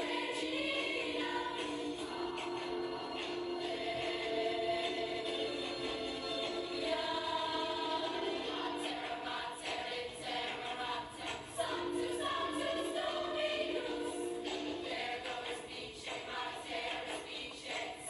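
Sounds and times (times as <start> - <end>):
women's choir singing: 0.0 - 18.0.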